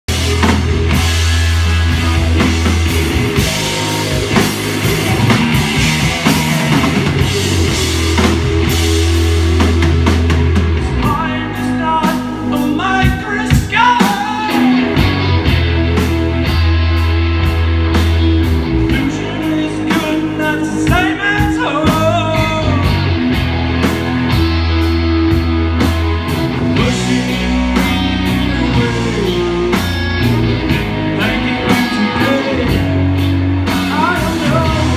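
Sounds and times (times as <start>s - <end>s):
drum kit: 0.0s - 34.9s
electric guitars: 0.1s - 34.9s
live rock band playing: 0.1s - 34.9s.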